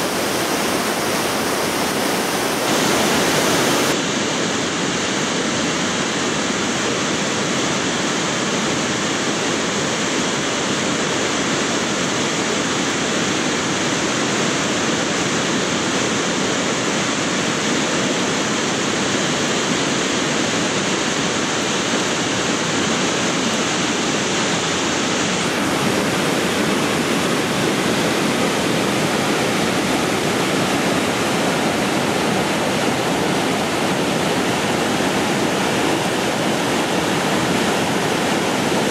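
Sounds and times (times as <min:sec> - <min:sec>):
whitewater river rushing: 0:00.0 - 0:38.9.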